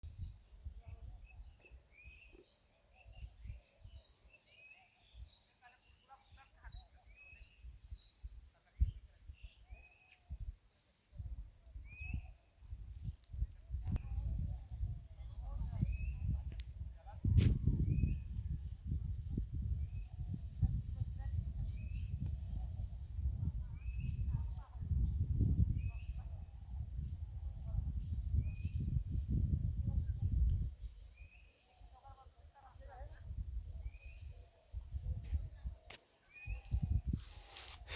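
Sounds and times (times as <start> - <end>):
crickets chirping: 0.0 - 37.9
high insect hiss: 0.1 - 37.9.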